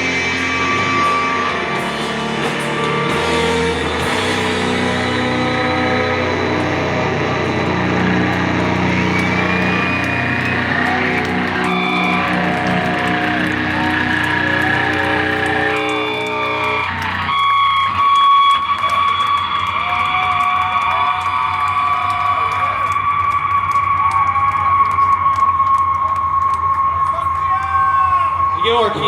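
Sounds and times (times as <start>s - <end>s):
doom metal band playing: 0.0s - 24.1s
wavering guitar tones ringing: 0.0s - 27.4s.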